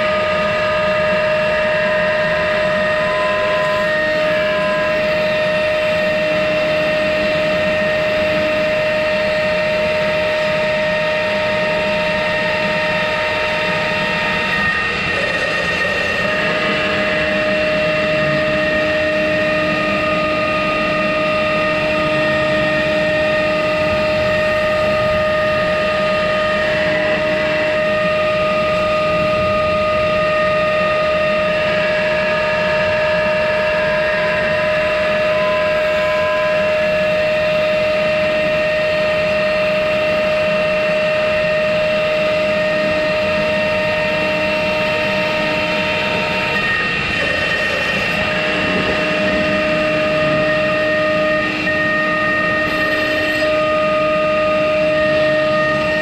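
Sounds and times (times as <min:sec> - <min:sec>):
router spindle high whine: 0:00.0 - 0:56.0.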